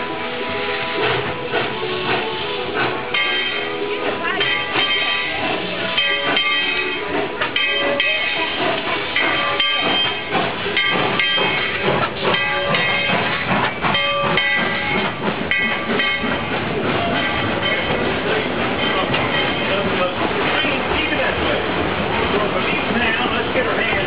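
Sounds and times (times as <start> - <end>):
steam hissing: 0.0 - 24.0
steam locomotive exhaust chuffs: 0.0 - 24.0.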